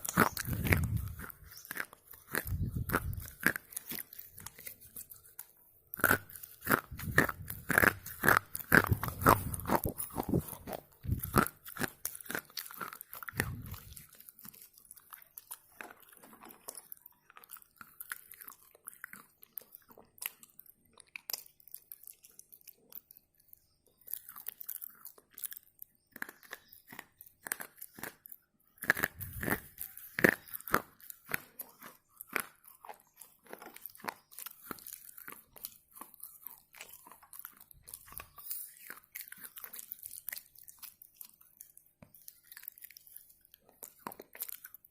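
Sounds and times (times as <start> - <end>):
slate pencil being chewed: 0.0 - 44.9.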